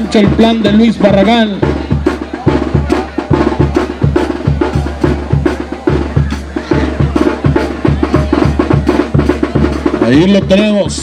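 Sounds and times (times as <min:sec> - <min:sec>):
lively band music: 0:00.0 - 0:11.0.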